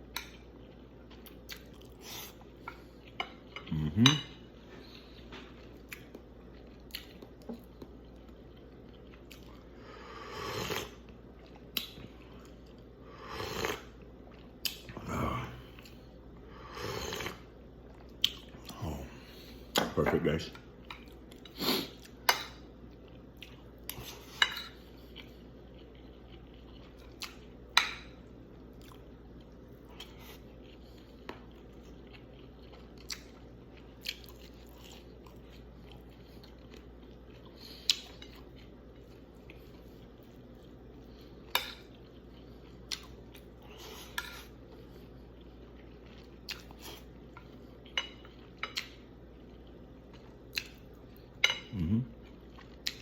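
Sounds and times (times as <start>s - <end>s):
chewing: 0.0s - 9.8s, 10.6s - 16.2s, 17.0s - 19.8s, 20.6s - 53.0s
faint steady hum: 0.0s - 53.0s.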